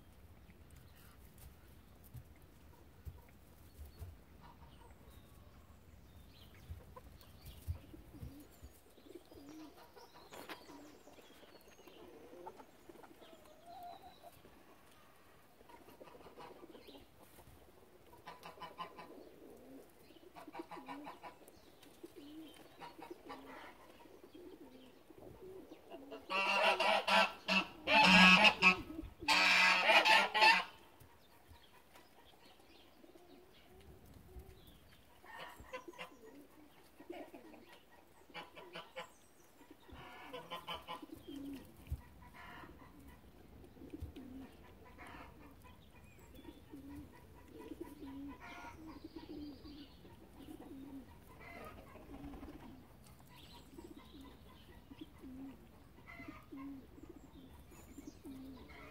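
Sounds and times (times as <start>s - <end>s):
farmyard bird loud call: 0.8s - 58.9s
birds chirping: 3.1s - 17.2s, 18.2s - 33.8s, 34.4s - 58.9s.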